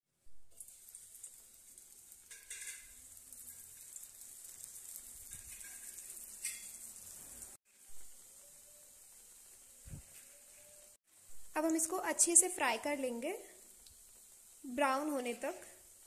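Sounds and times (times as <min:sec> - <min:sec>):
bread frying in hot oil: 0:00.1 - 0:16.0.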